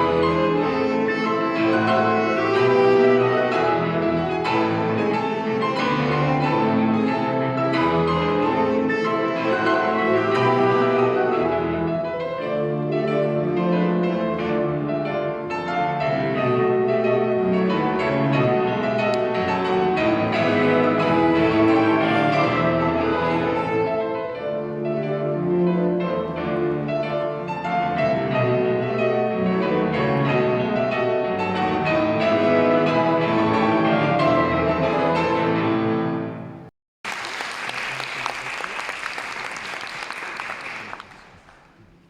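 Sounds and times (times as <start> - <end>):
piano duet: 0.0 - 36.7.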